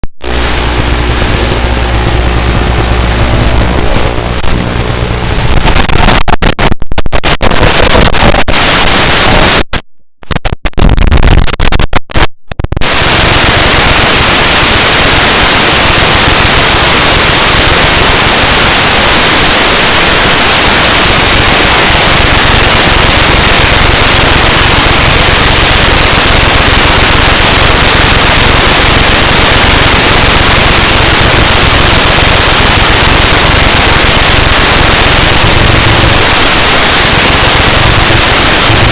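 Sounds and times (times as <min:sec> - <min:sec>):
loud steady static hiss: 0:00.2 - 0:38.9.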